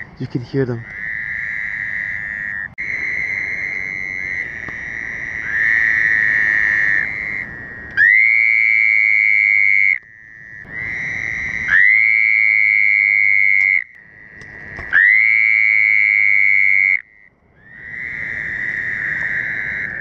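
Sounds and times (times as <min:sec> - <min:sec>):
loud close toad call: 0:00.0 - 0:20.0
toads calling: 0:00.0 - 0:20.0.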